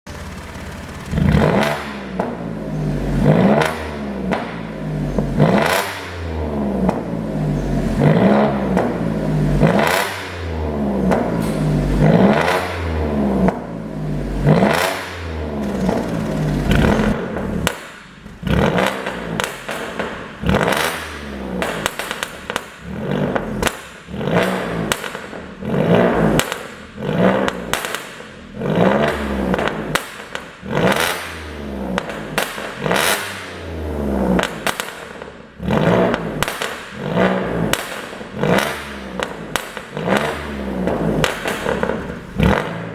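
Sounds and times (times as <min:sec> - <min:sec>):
car engine revving: 0:00.1 - 0:42.9
exhaust popping and crackling: 0:00.1 - 0:42.9.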